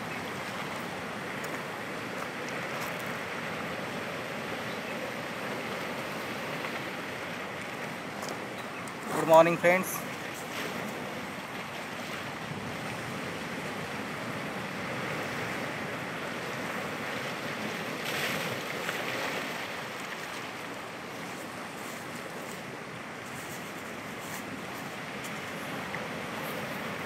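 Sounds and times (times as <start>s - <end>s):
surf washing against rocks: 0.0s - 27.0s.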